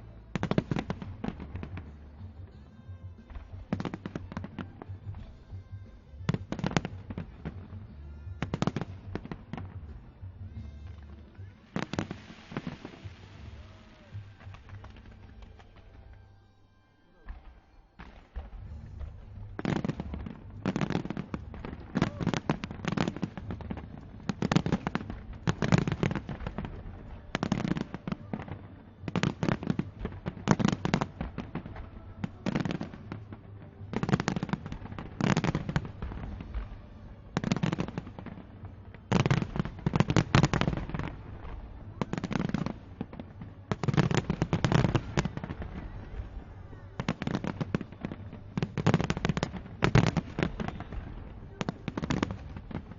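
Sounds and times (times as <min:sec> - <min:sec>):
fireworks bangs: 0:00.4 - 0:16.2, 0:17.2 - 0:52.9.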